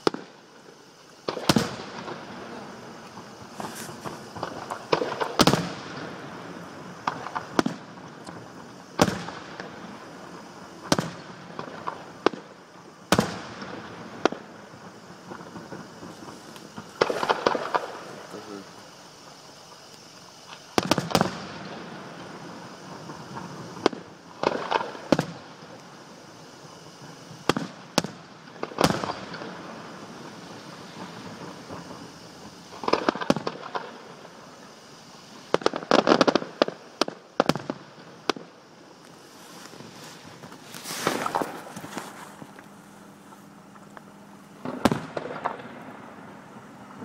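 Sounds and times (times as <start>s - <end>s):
fireworks bangs: 0.0s - 19.0s, 20.4s - 44.0s, 44.6s - 47.0s.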